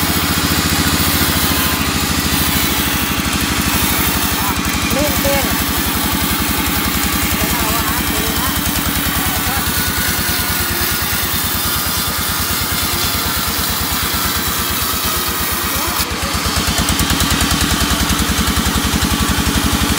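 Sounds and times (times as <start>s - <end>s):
reciprocating saw cutting wood: 0.0s - 19.9s.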